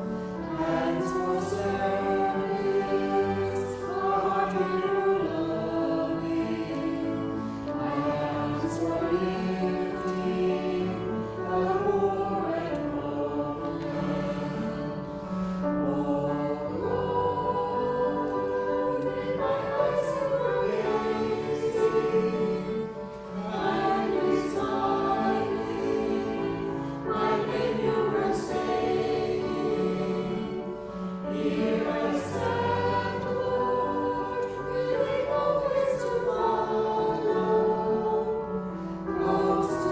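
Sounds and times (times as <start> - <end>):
group singing a hymn: 0.0 - 39.9
sustained accompaniment: 0.0 - 39.9.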